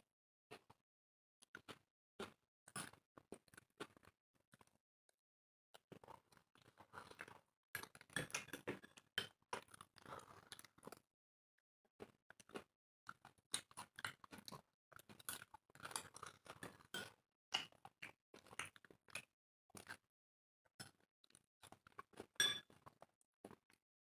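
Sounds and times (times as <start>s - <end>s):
people chewing and crunching food: 0.5s - 0.8s, 1.4s - 4.8s, 5.8s - 11.1s, 11.9s - 23.8s.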